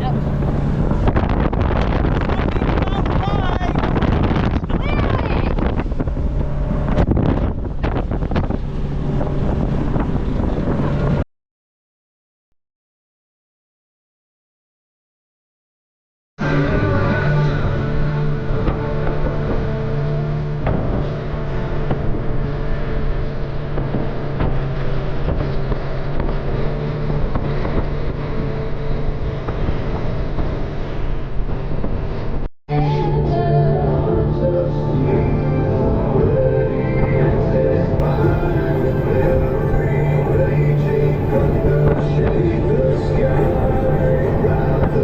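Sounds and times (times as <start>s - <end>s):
motorboat engine running: 0.0s - 11.2s, 16.4s - 45.0s
water rushing: 0.0s - 11.2s, 16.5s - 45.0s
wind buffeting microphone: 0.0s - 11.2s, 16.6s - 45.0s.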